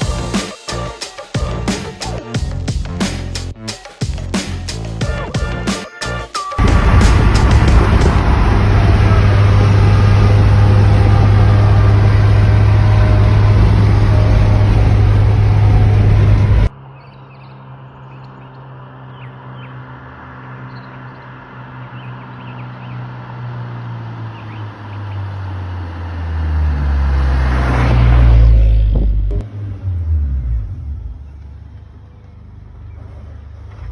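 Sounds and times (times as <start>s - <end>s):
car driving drone: 6.6s - 33.9s
vehicle approaching hum: 6.6s - 33.9s.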